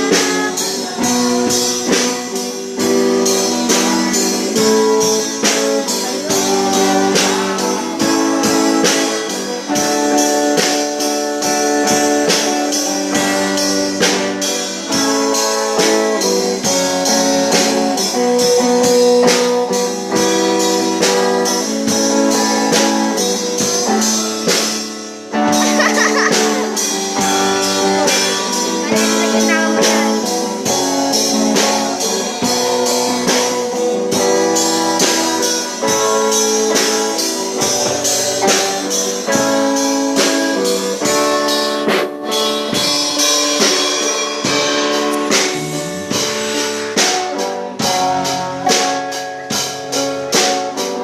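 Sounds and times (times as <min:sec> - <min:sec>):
drum kit beat: 0:00.0 - 0:51.0
guitars playing: 0:00.0 - 0:51.0.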